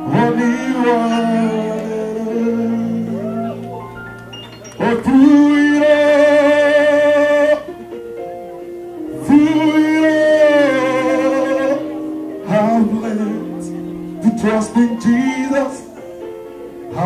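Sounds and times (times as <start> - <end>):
person singing long notes: 0.0 - 17.0
sustained accompaniment chords: 0.0 - 17.0.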